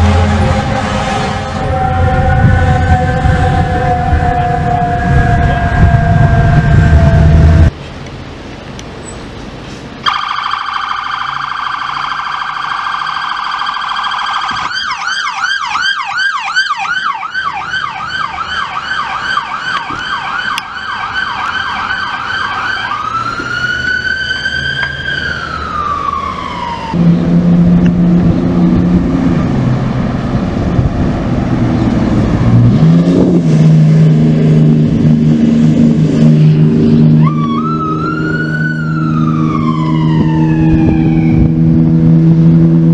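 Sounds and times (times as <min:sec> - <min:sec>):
electronic sirens: 0:00.0 - 0:07.7, 0:10.0 - 0:29.5, 0:32.9 - 0:42.9
fire truck diesel engine: 0:00.0 - 0:42.9.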